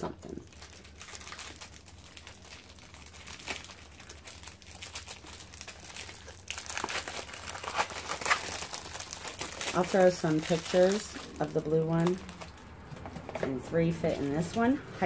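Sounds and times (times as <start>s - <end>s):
plastic wrapping crinkling and tearing: 0.0s - 13.4s.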